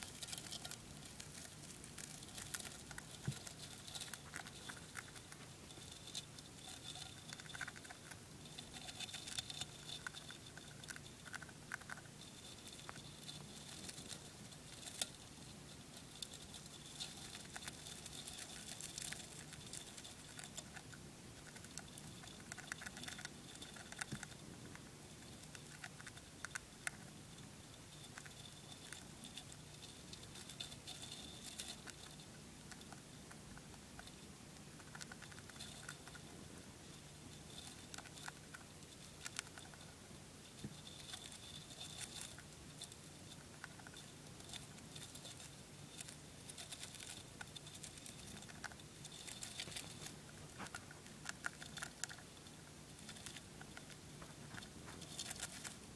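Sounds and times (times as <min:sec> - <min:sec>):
hamster nibbling seeds: 0:00.0 - 0:55.9.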